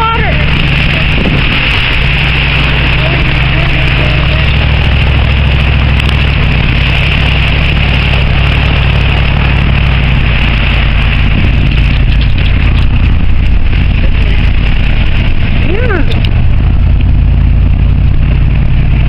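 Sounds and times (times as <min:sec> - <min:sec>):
road and wind noise: 0:00.0 - 0:19.0
vehicle engine running: 0:00.0 - 0:19.0.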